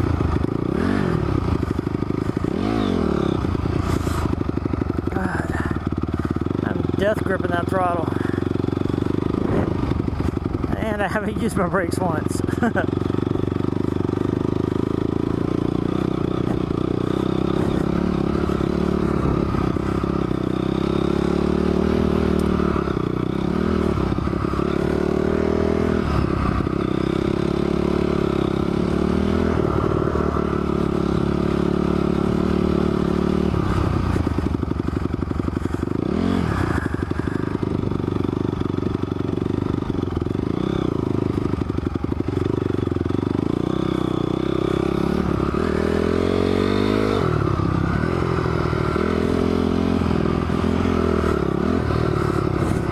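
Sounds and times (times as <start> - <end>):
motorcycle engine running hard: 0.0 - 52.9.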